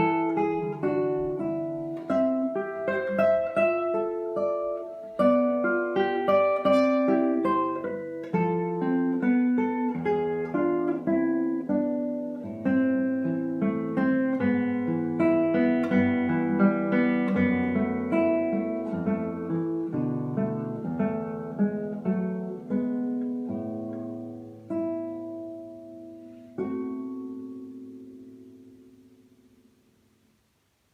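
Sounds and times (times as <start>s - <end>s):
fingerpicked acoustic guitar: 0.0s - 30.9s.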